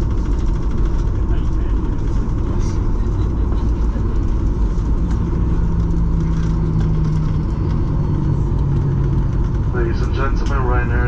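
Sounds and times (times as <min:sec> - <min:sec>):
aircraft engines rumbling: 0:00.0 - 0:11.0
low hum: 0:00.0 - 0:11.0.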